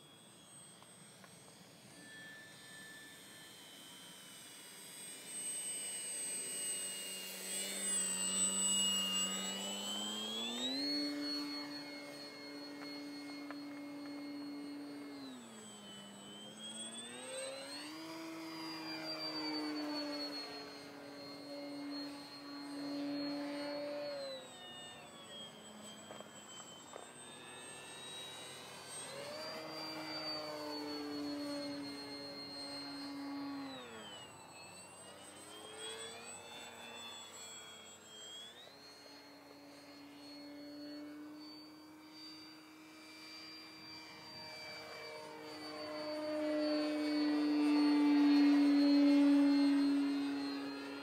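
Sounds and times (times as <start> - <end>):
model plane motor whine: 0.0 - 51.0.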